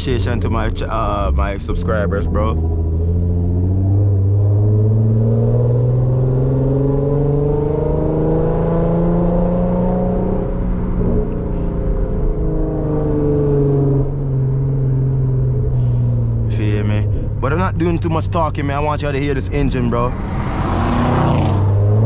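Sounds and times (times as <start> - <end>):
car engine and exhaust accelerating: 0.0 - 22.0.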